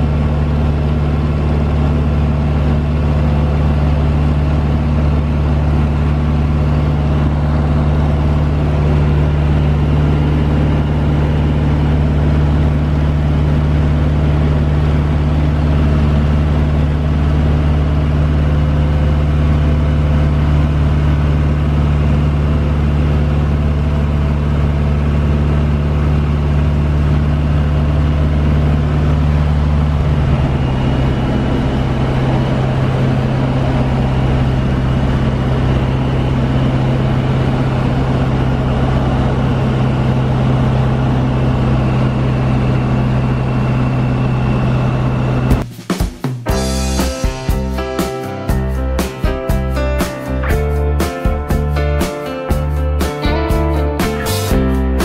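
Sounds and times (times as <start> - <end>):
aircraft engine droning: 0.0 - 45.6.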